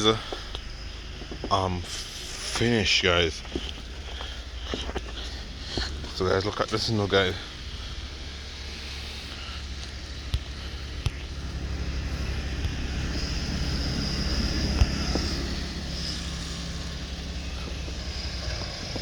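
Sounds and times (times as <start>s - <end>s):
snow blower engine running: 0.0s - 19.0s
thin high whine: 0.0s - 19.0s.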